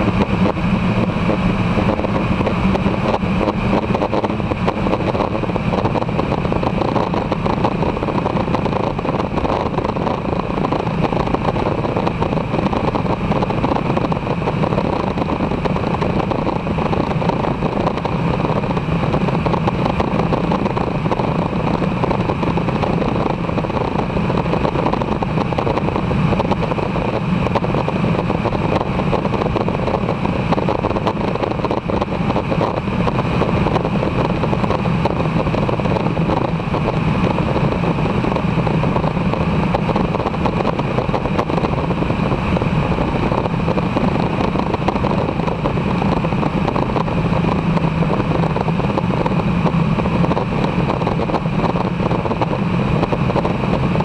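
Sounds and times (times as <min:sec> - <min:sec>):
air rushing past microphone: 0:00.0 - 0:54.0
light aircraft engine droning: 0:00.0 - 0:54.0.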